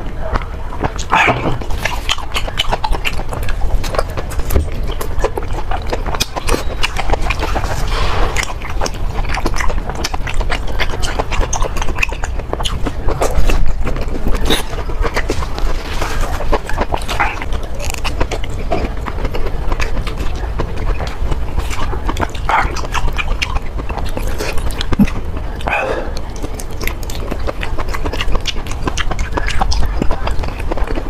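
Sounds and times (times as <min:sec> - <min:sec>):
wet chewing: 0:00.0 - 0:31.0
crisp crunchy clicks: 0:00.3 - 0:31.0.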